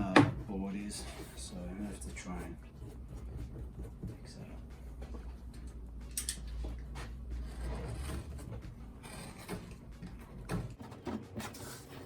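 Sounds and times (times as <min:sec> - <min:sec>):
scraping and rubbing on board: 0:00.7 - 0:05.2, 0:06.9 - 0:12.0.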